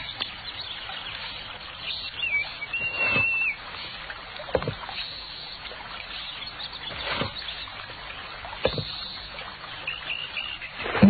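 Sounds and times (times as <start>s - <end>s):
bird chirp: 0.0s - 3.6s, 4.9s - 10.8s
river water trickling: 0.0s - 11.0s.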